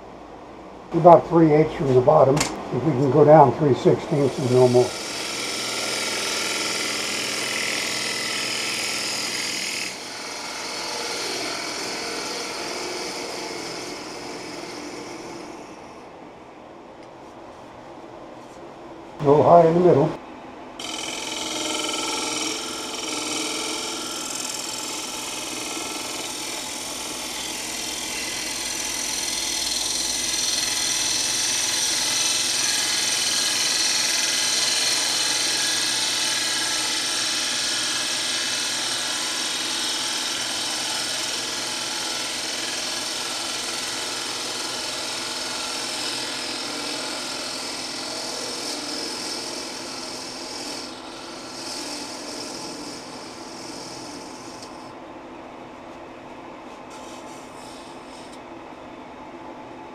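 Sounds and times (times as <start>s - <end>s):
lathe humming: 0.9s - 16.0s, 20.8s - 55.0s
tool scraping wood: 1.8s - 15.8s, 20.8s - 54.9s, 56.7s - 58.4s.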